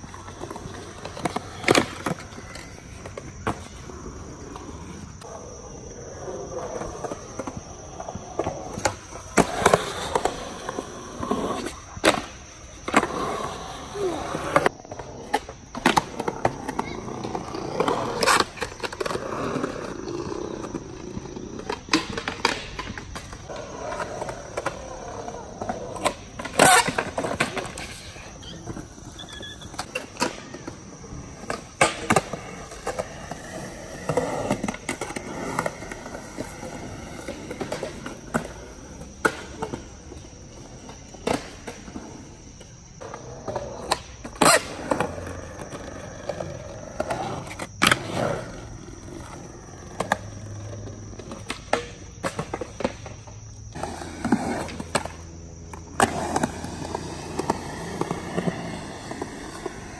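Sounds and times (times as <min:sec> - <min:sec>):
skateboard clacks: 0:00.0 - 0:59.9
skateboard wheels rolling on concrete: 0:00.0 - 0:59.9.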